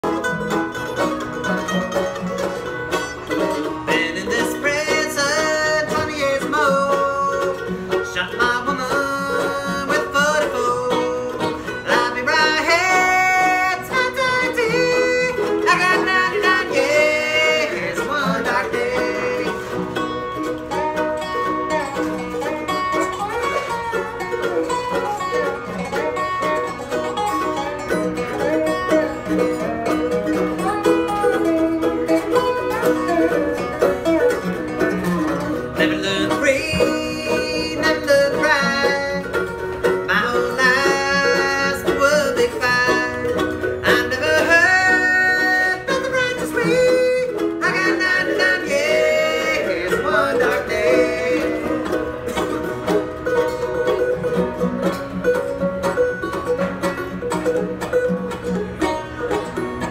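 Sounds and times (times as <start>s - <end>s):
mandolin: 0.0s - 59.9s
resonator guitar sliding notes: 0.0s - 59.9s
strummed acoustic guitar: 0.0s - 59.9s.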